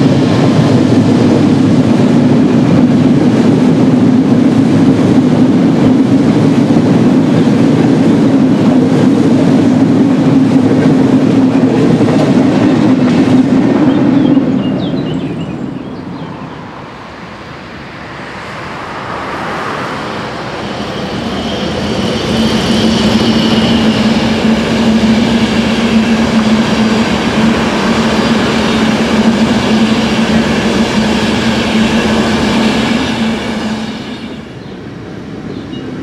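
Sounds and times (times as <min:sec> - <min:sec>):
train passing: 0:00.0 - 0:36.0.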